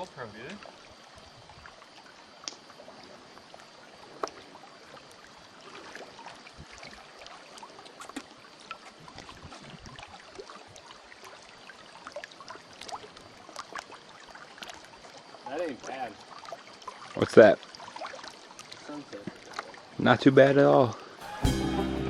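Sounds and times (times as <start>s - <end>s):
lake water lapping: 0.0s - 20.0s.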